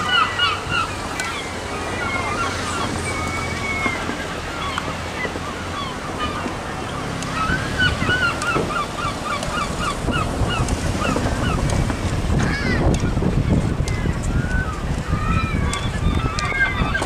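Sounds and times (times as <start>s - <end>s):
gull yelping calls: 0.0s - 11.7s, 13.9s - 17.0s
surf: 0.0s - 17.0s
wind: 0.0s - 17.0s.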